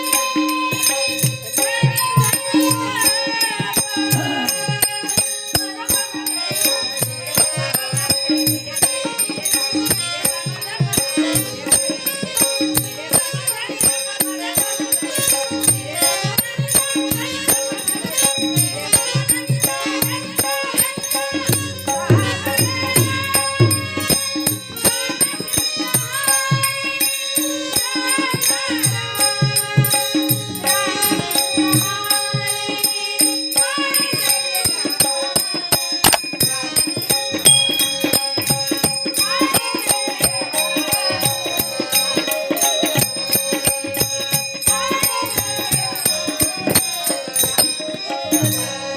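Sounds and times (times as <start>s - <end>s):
small hand cymbals striking: 0.0s - 48.9s
woman singing devotional chant: 0.0s - 48.9s.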